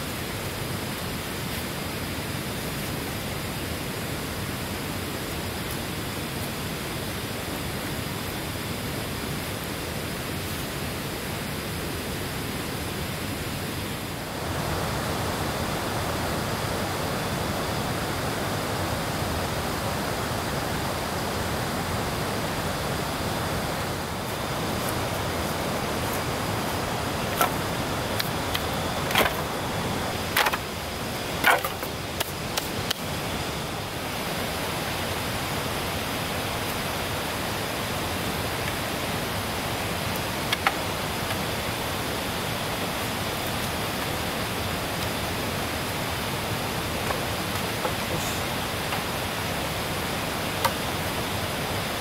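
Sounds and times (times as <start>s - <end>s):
heavy rain hissing: 0.0s - 52.0s.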